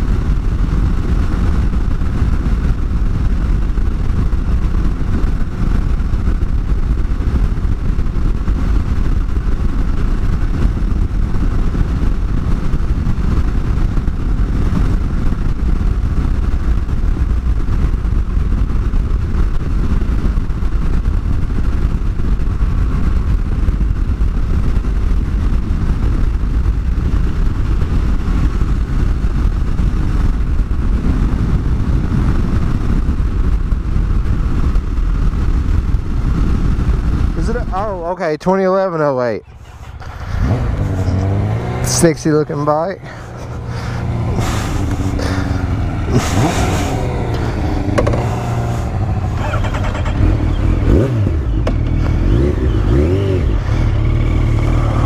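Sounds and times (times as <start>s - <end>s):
motorcycle engine and road noise: 0.0s - 55.0s
wind rushing on microphone: 0.0s - 55.0s.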